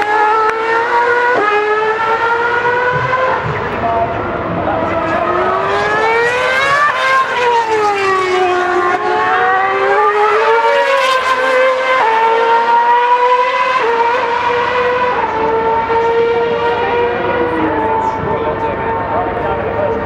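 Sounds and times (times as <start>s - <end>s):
racing car engines at high revs: 0.0s - 20.0s.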